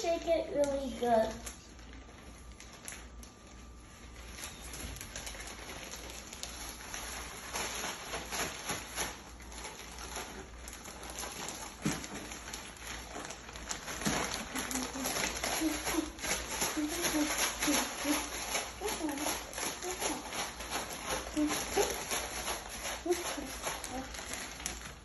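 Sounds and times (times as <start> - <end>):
plastic bag rustling: 0.0 - 25.0.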